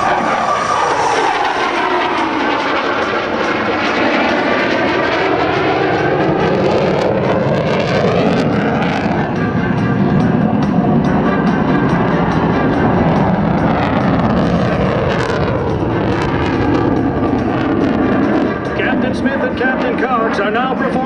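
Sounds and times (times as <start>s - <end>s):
jet engines flying past: 0.0s - 21.0s.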